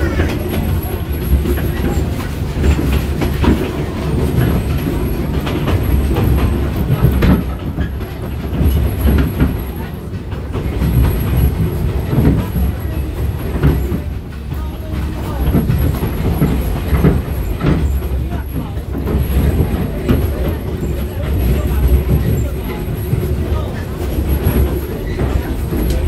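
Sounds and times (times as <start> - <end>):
railroad car rumbling: 0.0 - 26.0
wheels clicking on rails: 0.0 - 26.0.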